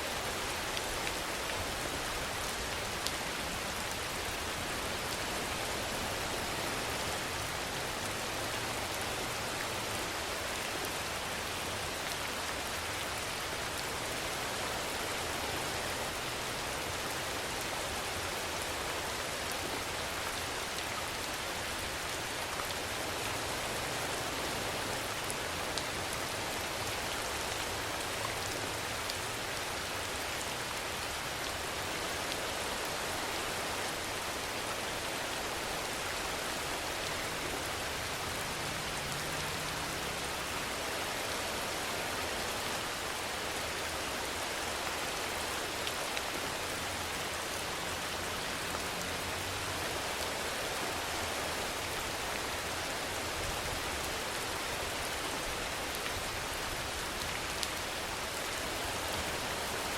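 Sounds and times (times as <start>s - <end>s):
rain hissing on surfaces: 0.0s - 59.9s.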